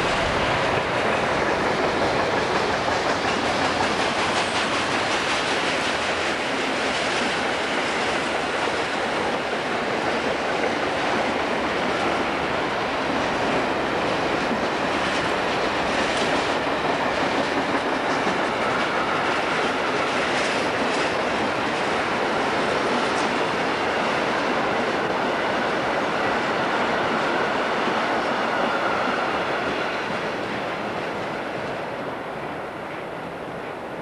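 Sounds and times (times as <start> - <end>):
freight train wheels clattering: 0.0 - 34.0.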